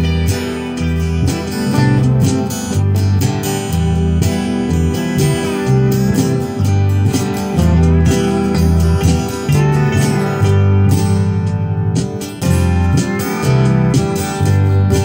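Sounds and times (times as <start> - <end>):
acoustic guitar strumming: 0.0 - 15.0
bass notes: 0.0 - 15.0.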